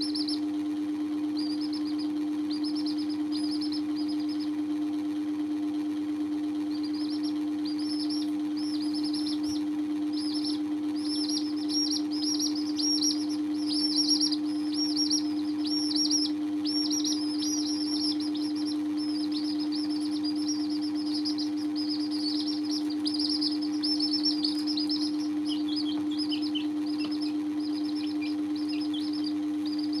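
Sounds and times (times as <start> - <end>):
chicks peeping: 0.0 - 30.0
steady low hum: 0.0 - 30.0.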